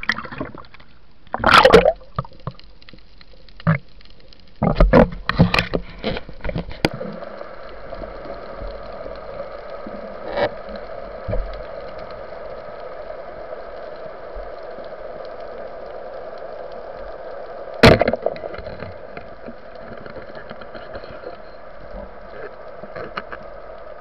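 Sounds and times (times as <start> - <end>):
muffled underwater rush of water: 0.0 - 24.0.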